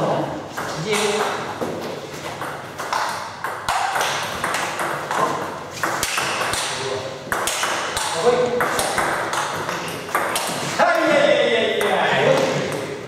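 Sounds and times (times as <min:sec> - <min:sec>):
table tennis balls clicking: 0:00.5 - 0:11.1.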